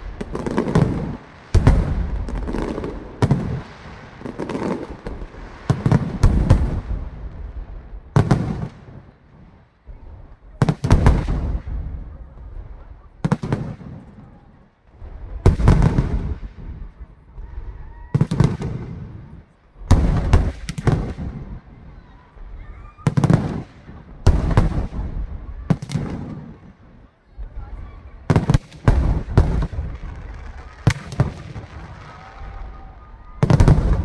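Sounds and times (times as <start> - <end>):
fireworks booming: 0.0 - 34.0.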